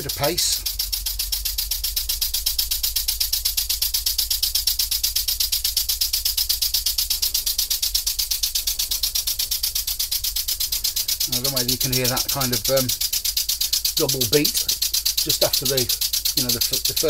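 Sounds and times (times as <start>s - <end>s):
model engine chuffing air puffs: 0.0s - 17.0s.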